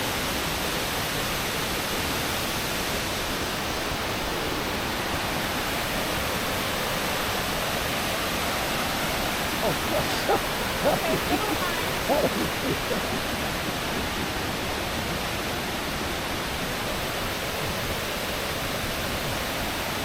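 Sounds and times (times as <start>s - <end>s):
waterfall roaring: 2.6s - 20.0s.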